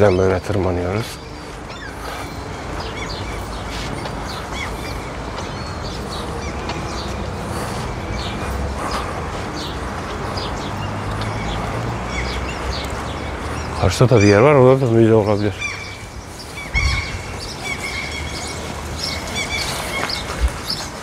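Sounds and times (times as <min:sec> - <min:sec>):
outdoor background noise: 0:00.0 - 0:21.0
small birds chirping: 0:00.0 - 0:21.0.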